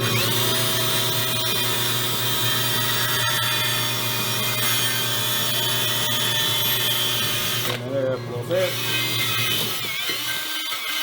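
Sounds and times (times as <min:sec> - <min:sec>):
power buffer whining: 0:00.0 - 0:11.0.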